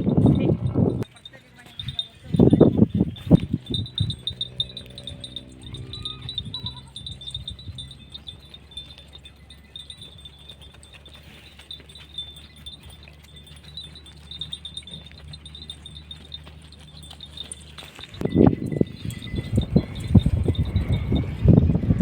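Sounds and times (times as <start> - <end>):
small bells jingling: 0.0 - 22.0.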